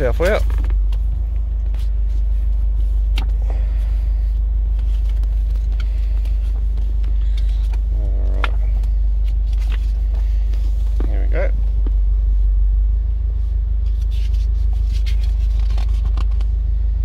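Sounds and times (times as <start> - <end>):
faint paper rustling: 0.0 - 12.0, 13.8 - 16.5
car cabin low rumble: 0.0 - 17.0.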